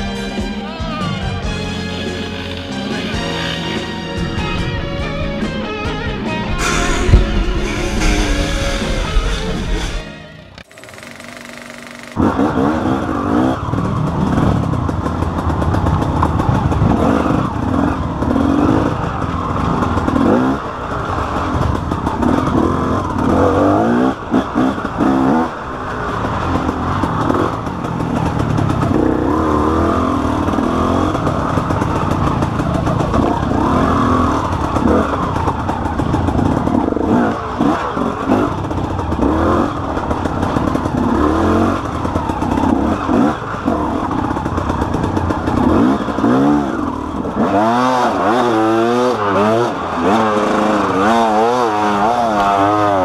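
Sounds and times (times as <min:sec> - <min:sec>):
two-stroke engine revving: 0:01.4 - 0:53.0.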